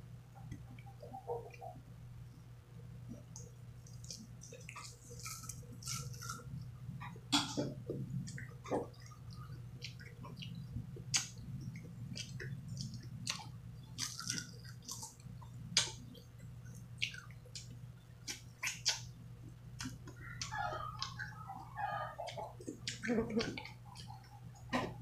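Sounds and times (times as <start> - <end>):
low background hum: 0.0 - 25.0
person chewing fruit: 3.1 - 25.0.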